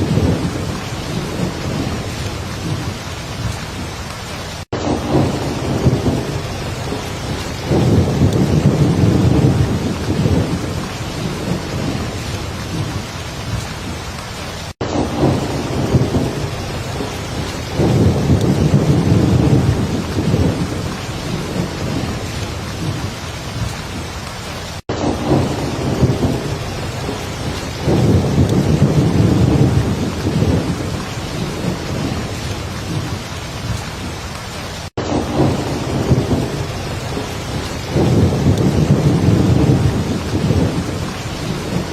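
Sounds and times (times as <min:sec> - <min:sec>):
low rumble of thunder: 0:00.0 - 0:04.0, 0:04.8 - 0:13.8, 0:14.4 - 0:24.0, 0:24.6 - 0:41.9
heavy rain pouring: 0:00.0 - 0:41.9.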